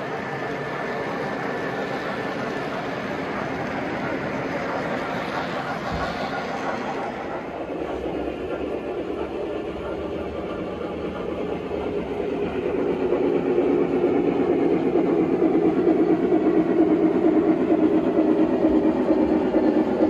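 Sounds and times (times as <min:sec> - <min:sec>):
model train rumbling on track: 0:00.0 - 0:20.0.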